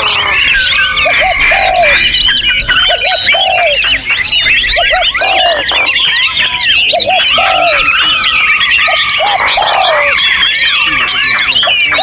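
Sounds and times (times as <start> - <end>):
low hoot-like notes: 0.0 - 12.0
songbirds chorus: 0.0 - 12.0.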